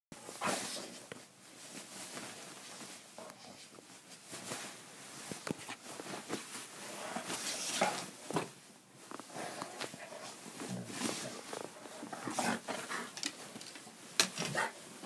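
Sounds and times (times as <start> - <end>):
rustling of blankets: 0.2 - 15.0.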